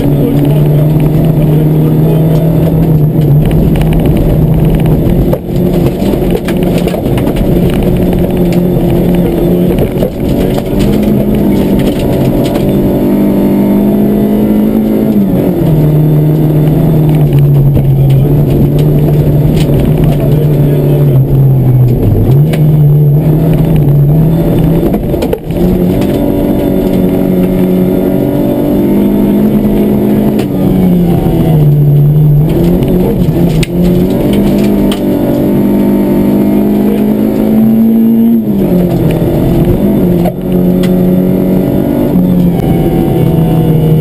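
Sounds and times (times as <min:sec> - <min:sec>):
rally car engine at high revs: 0:00.0 - 0:44.0.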